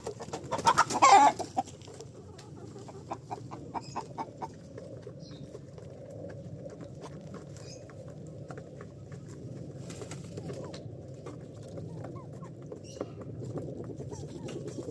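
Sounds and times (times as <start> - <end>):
chickens clucking: 0.0 - 14.9.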